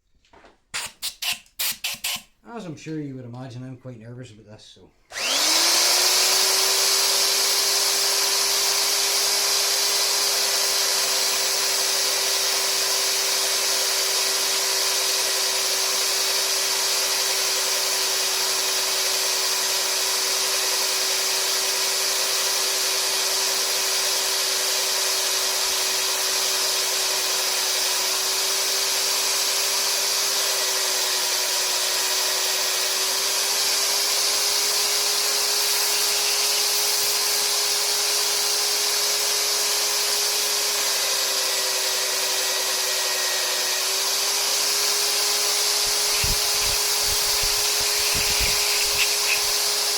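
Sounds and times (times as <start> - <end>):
electric drill motor running: 0.8 - 2.3, 5.1 - 49.9.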